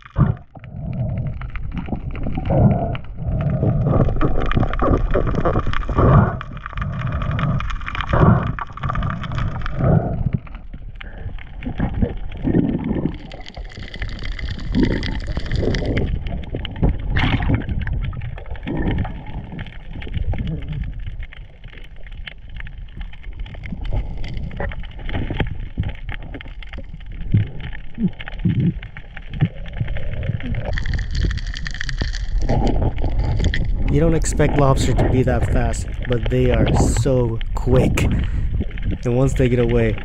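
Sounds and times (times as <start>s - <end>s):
muffled underwater water rush: 0.0s - 40.0s.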